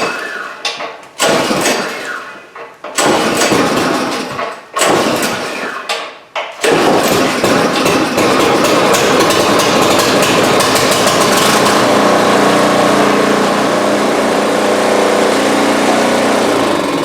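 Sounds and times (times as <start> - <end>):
snow blower engine running: 1.2 - 2.2, 3.0 - 5.6, 6.6 - 17.0.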